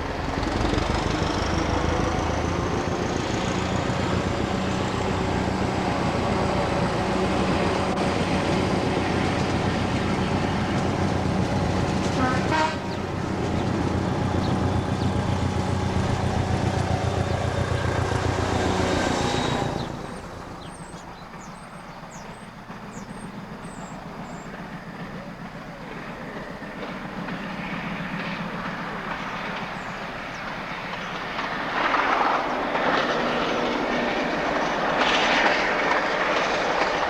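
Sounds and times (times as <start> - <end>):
diesel locomotive engine drone: 0.0 - 37.0
train on rails: 0.0 - 37.0.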